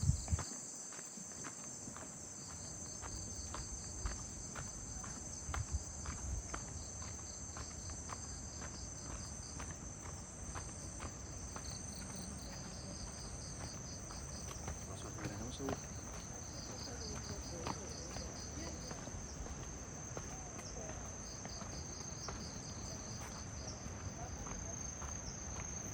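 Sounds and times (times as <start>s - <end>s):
crickets and insects chirping: 0.0s - 25.9s
footsteps on a path: 0.0s - 25.9s.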